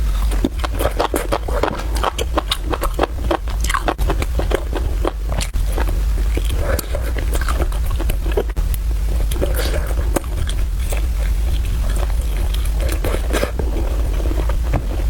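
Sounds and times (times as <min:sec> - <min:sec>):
steady low hum: 0:00.0 - 0:15.0
chewing with wet smacks: 0:00.1 - 0:14.8.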